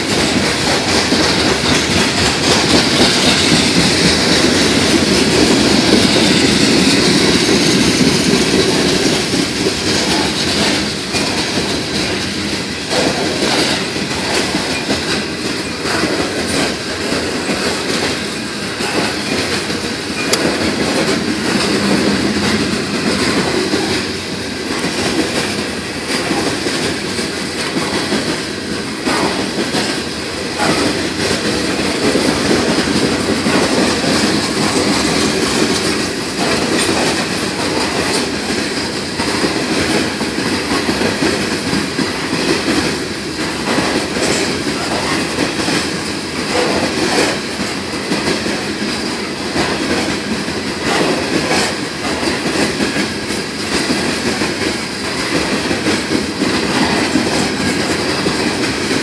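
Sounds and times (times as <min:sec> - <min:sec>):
train wheels rumbling on rail: 0:00.0 - 0:59.0
wheels clicking over track joints: 0:00.0 - 0:59.0.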